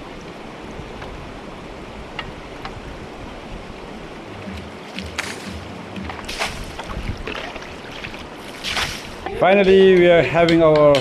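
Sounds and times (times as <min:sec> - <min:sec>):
river water running: 0:00.0 - 0:10.5.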